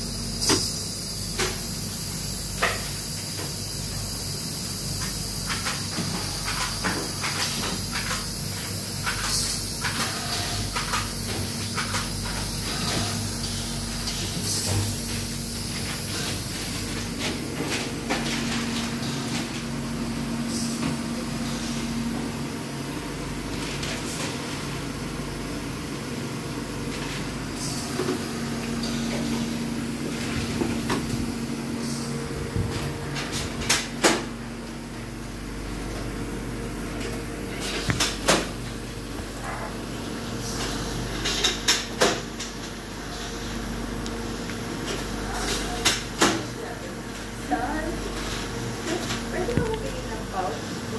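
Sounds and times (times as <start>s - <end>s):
sterilizer mechanical hum: 0.0s - 50.9s.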